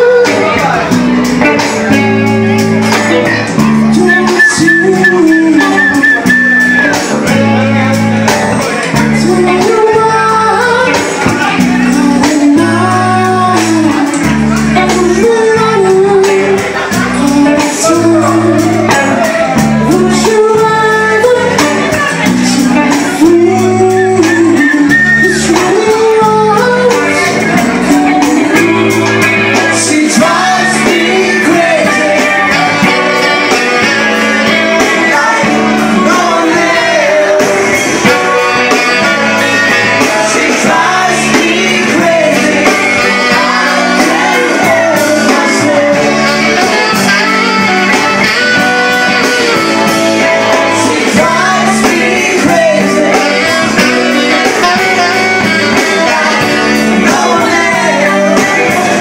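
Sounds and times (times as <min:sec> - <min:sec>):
electric guitars: 0:00.0 - 0:59.0
live rock band playing: 0:00.0 - 0:59.0
person singing: 0:00.0 - 0:59.0.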